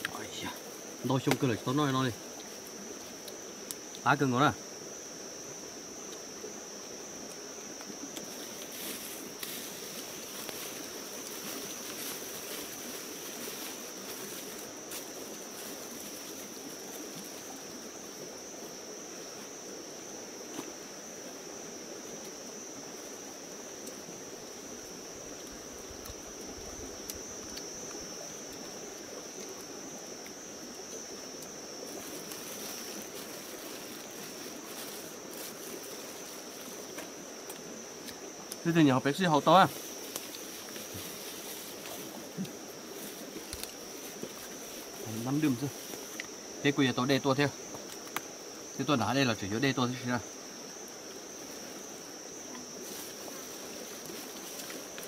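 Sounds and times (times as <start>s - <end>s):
insect high-pitched trill: 0.0s - 55.0s.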